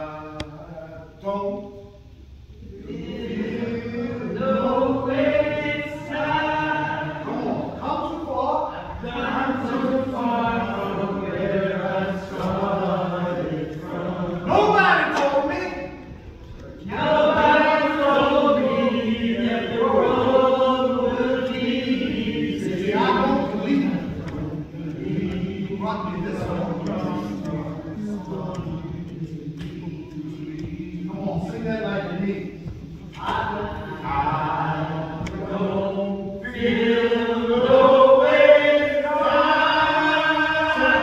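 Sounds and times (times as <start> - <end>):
group of voices singing: 2.1 - 41.0.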